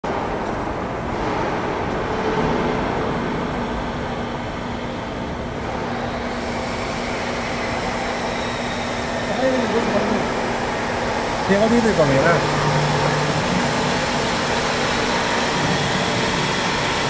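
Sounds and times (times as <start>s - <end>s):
factory machinery hum: 0.1s - 17.0s.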